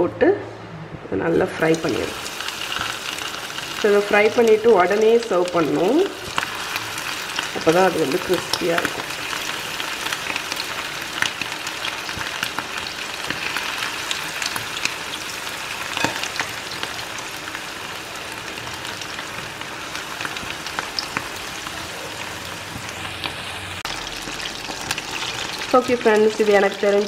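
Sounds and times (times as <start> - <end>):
hot oil sizzling and crackling: 1.6 - 27.0.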